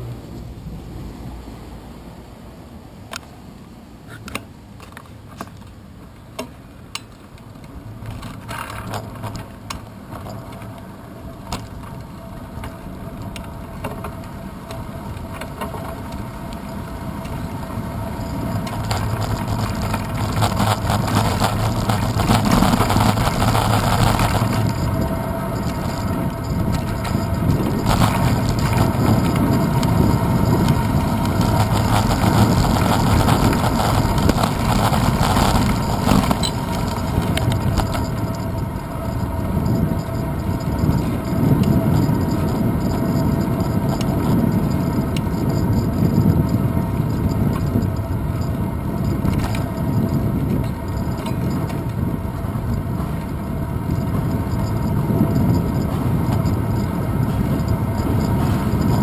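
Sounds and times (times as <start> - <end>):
bicycle riding rumble: 0.0 - 59.0
wind noise: 11.2 - 59.0.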